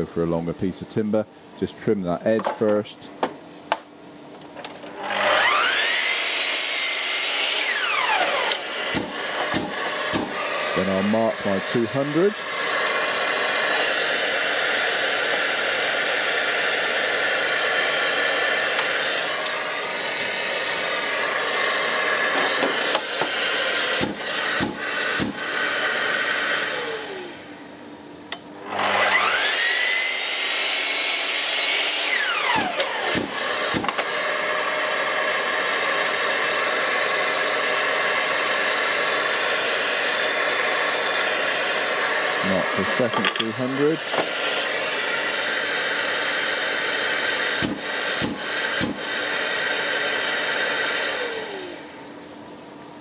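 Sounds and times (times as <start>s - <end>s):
mitre saw cutting timber: 5.0s - 27.3s, 28.6s - 51.8s
dust extractor hiss: 5.4s - 27.6s, 29.0s - 52.2s.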